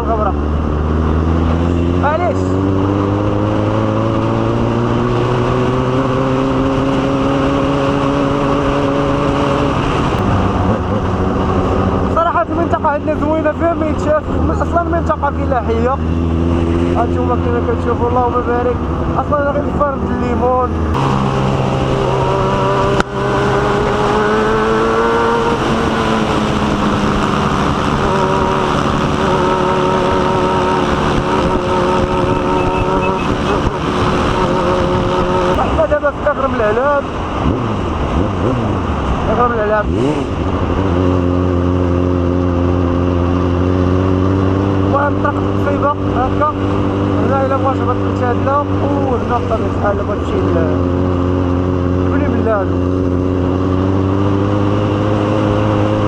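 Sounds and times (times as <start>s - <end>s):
motorcycle engine running: 0.0s - 56.0s
rushing wind: 0.0s - 56.0s.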